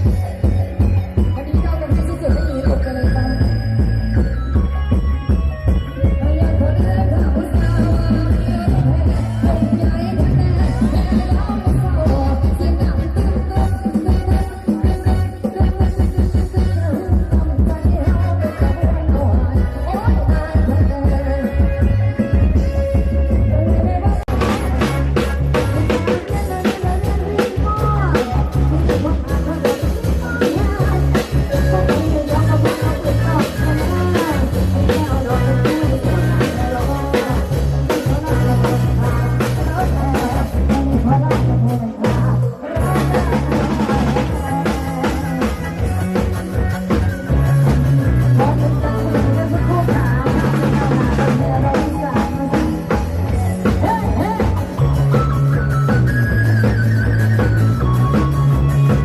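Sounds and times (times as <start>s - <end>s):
drum kit and bass beat: 0.0s - 59.0s
loud amplified rock music: 0.0s - 59.0s.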